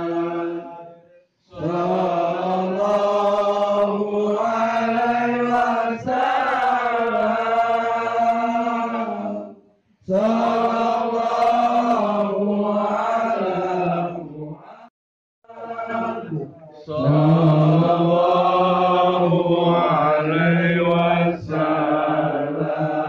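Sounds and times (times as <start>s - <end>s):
voices chanting: 1.5s - 9.4s, 10.1s - 14.2s, 15.6s - 23.0s.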